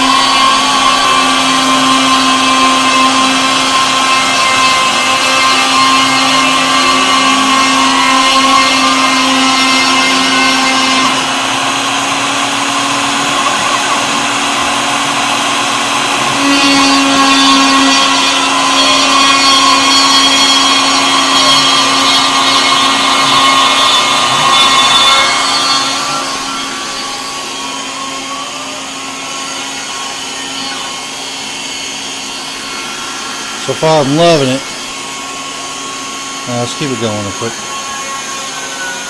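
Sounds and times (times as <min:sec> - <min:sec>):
spindle motor whine: 0:00.0 - 0:39.0
stepper motors whirring: 0:00.0 - 0:39.0.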